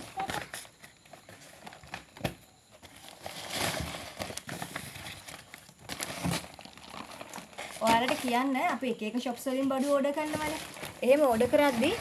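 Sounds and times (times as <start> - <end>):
paper sack rustling and crinkling: 0.0 - 12.0.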